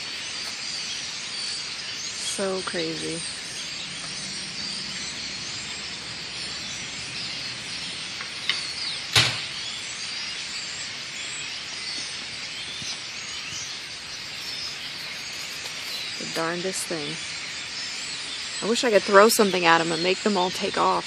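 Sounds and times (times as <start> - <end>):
flock of blackbirds chirping: 0.0 - 21.0.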